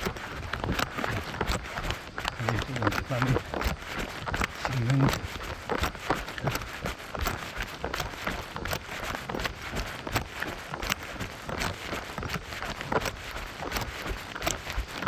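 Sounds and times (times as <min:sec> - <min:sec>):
running footsteps: 0:00.0 - 0:15.0.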